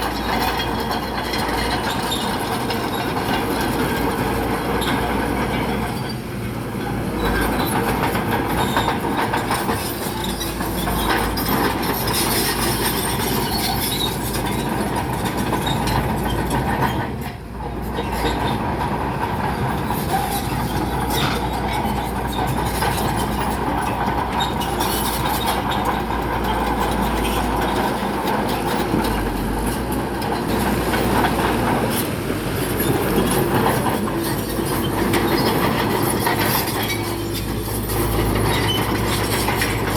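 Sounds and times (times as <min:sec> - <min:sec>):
diesel engine running: 0:00.0 - 0:39.9
steel tracks clanking and squealing: 0:00.0 - 0:39.9.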